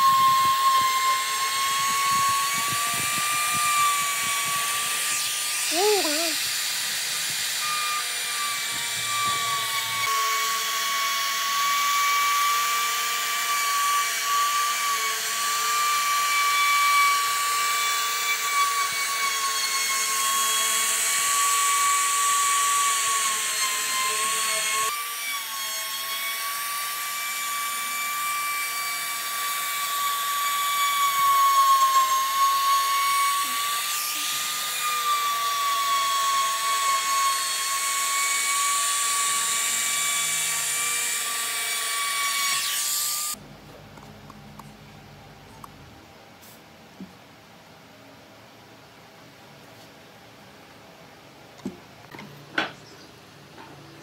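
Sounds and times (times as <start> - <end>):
power tool high-pitched whine: 0.0 - 43.4.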